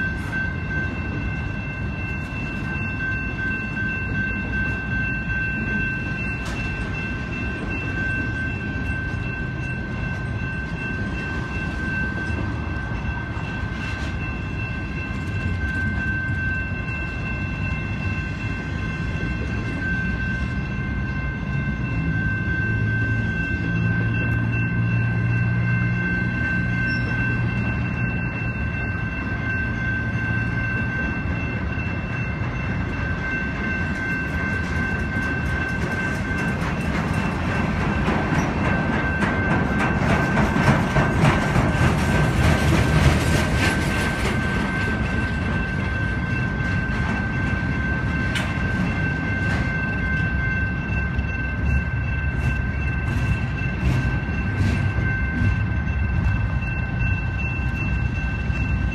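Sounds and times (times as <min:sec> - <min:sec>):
high-pitched ringing: 0:00.0 - 0:58.9
train wheels rumbling on rail: 0:00.0 - 0:58.9.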